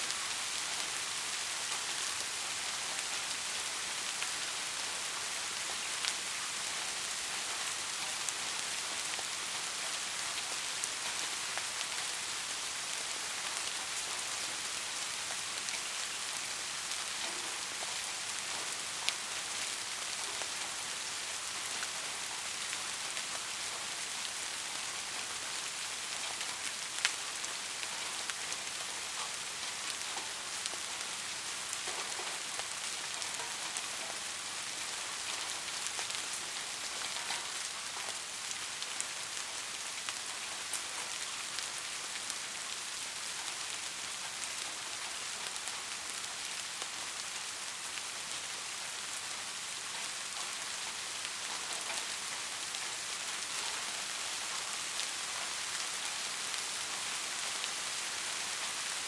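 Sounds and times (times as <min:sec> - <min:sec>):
rain falling on a surface: 0:00.0 - 0:59.0.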